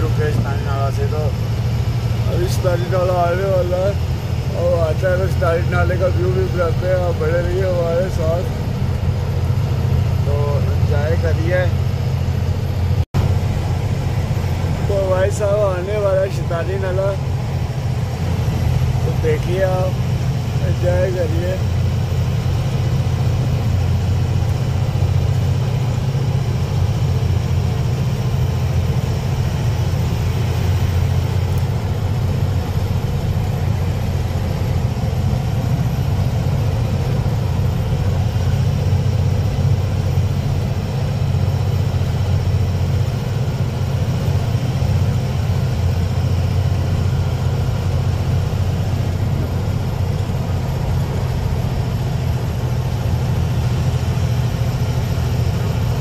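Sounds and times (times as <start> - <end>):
road noise: 0.0 - 56.0
truck engine droning: 0.0 - 56.0.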